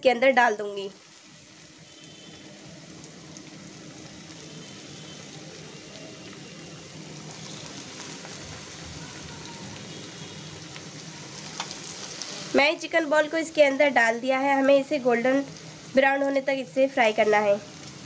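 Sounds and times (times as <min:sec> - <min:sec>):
hot oil sizzling: 0:00.0 - 0:18.0.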